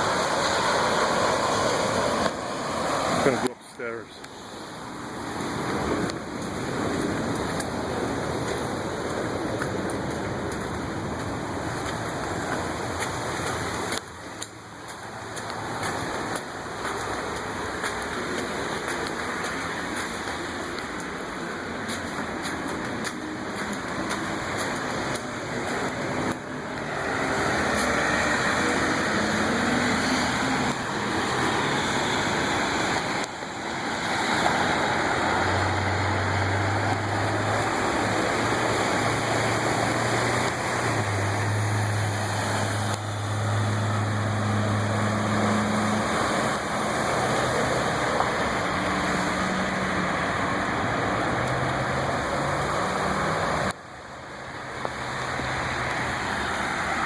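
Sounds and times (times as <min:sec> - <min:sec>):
floodwater rushing: 0:00.0 - 0:57.0
vehicle engine hum: 0:00.0 - 0:57.0.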